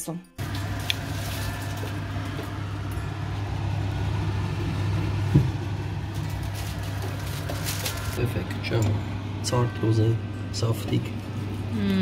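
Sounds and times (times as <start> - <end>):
appliance fan hiss: 0.4 - 12.0
low electric hum: 0.4 - 12.0.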